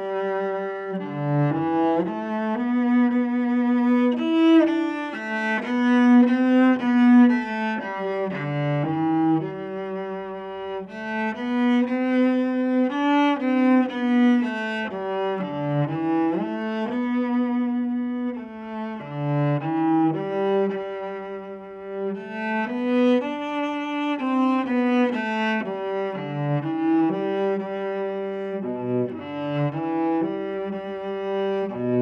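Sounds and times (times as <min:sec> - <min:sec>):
solo cello melody: 0:00.0 - 0:32.0.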